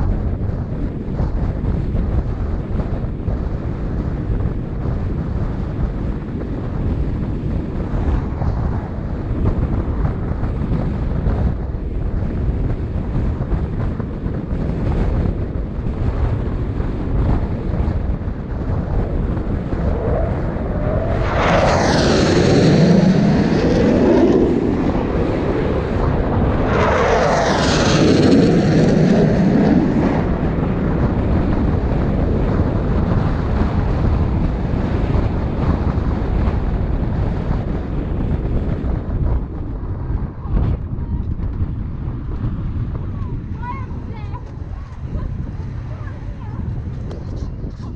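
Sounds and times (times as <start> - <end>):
car wind and road noise: 0.0 - 47.9
fighter jets passing overhead: 0.0 - 47.9.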